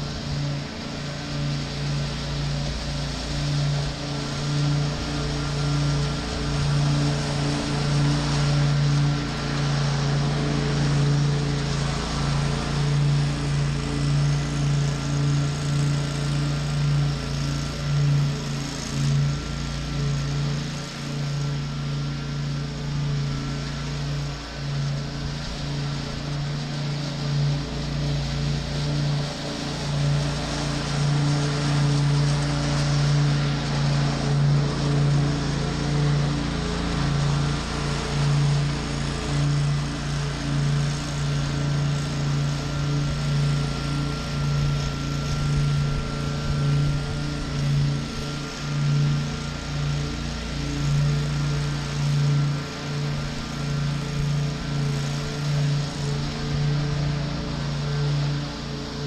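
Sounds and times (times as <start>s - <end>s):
riding mower engine drone: 0.0s - 59.0s.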